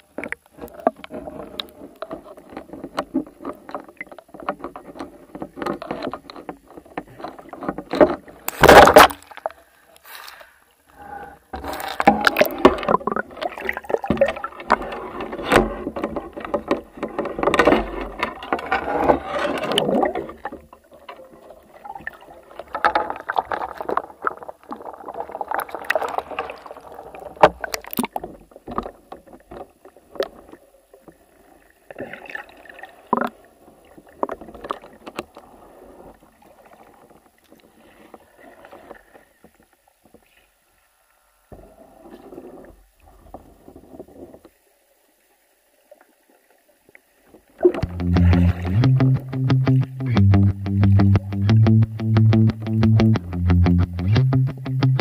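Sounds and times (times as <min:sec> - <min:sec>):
underwater sloshing and gurgling: 0:00.0 - 0:48.6.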